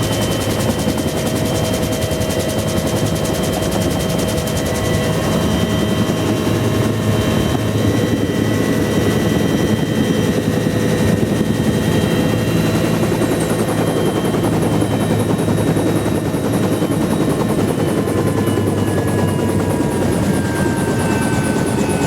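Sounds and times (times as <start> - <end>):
helicopter rotor noise: 0.0 - 22.0
turbine whine: 0.0 - 22.0.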